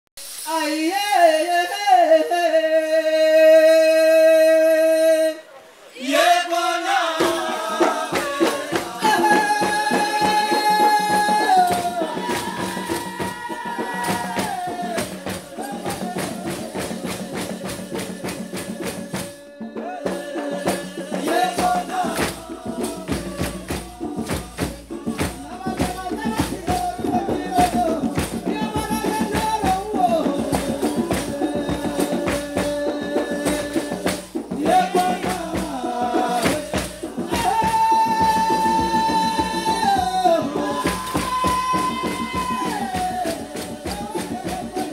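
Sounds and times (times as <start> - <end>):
fast shaker rhythm: 0.2 - 2.6, 6.2 - 44.9.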